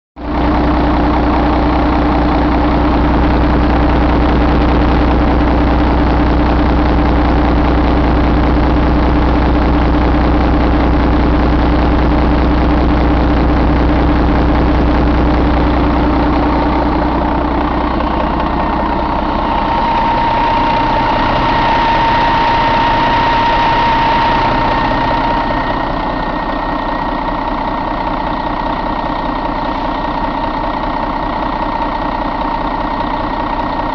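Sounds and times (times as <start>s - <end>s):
diesel engine idling: 0.2s - 33.9s
high-pitched engine whine: 0.2s - 33.9s.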